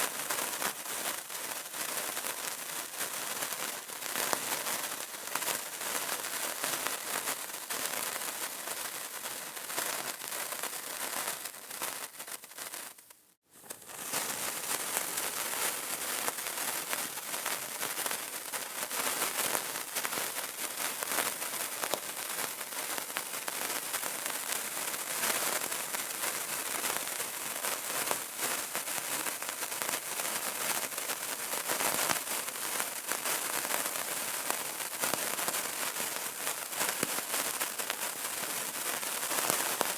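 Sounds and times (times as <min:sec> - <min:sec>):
candle crackling: 0:01.2 - 0:28.4, 0:29.4 - 0:39.9.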